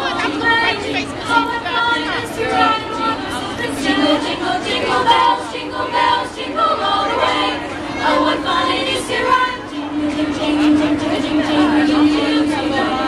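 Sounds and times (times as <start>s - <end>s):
girls choir singing: 0.0s - 13.0s.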